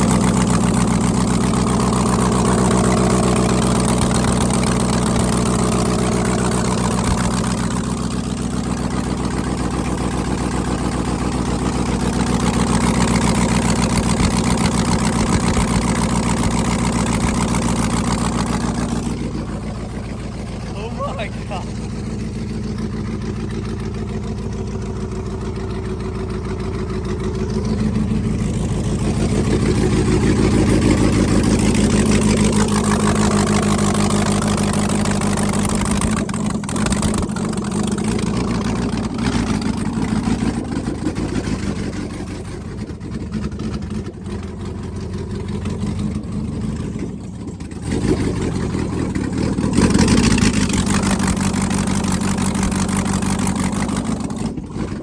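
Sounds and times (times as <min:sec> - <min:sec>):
loud truck engine running: 0:00.0 - 0:55.0.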